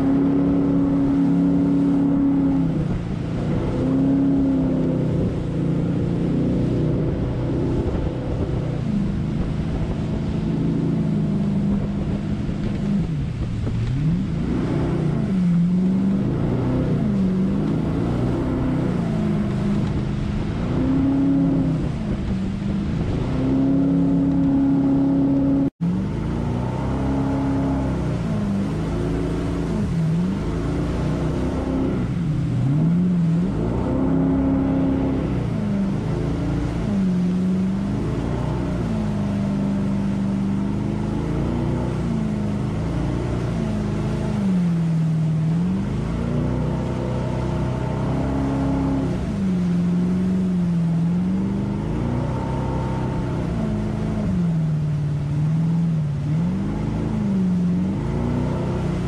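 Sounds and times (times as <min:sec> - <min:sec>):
jet boat engine revving: 0:00.0 - 0:59.0
rushing whitewater: 0:00.0 - 0:59.0.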